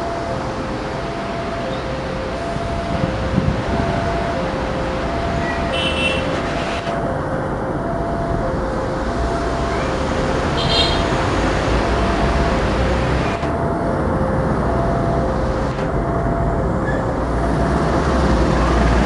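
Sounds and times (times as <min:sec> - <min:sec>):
level crossing two-tone alarm: 0:00.0 - 0:19.0
train rumbling: 0:00.0 - 0:19.0.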